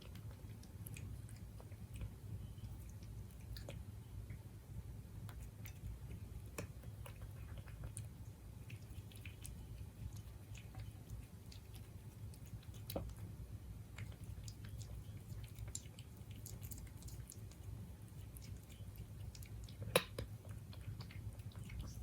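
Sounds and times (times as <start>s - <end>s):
cat chewing food: 0.0s - 22.0s
low steady hum: 0.0s - 22.0s.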